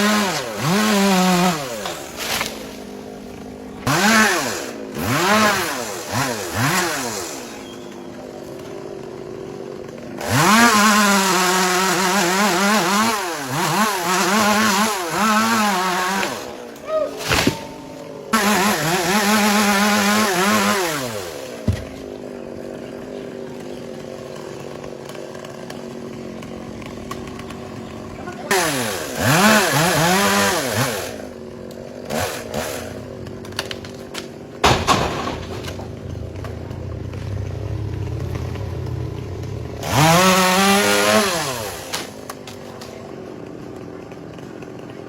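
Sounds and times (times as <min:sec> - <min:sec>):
chainsaw idling and revving: 0:00.0 - 0:45.0.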